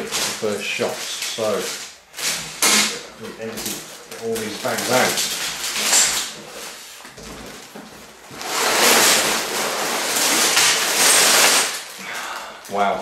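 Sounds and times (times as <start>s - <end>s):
plastic bags crinkling and rustling: 0.0s - 13.0s.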